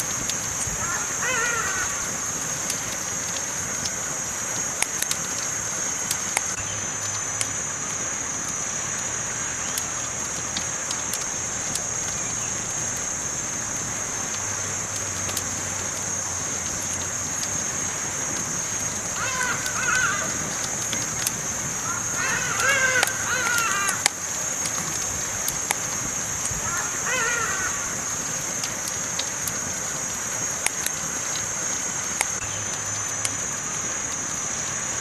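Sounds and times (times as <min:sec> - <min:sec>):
campfire crackles and pops: 0:00.0 - 0:35.0
steady high hiss: 0:00.0 - 0:35.0.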